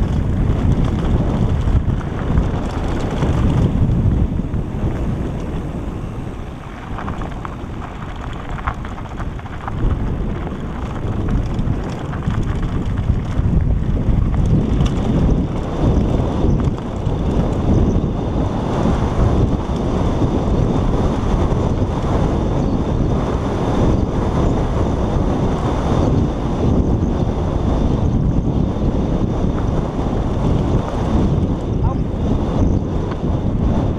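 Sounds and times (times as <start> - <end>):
tyres rumbling over gravel: 0.0 - 33.2
wind buffeting microphone: 0.0 - 33.9.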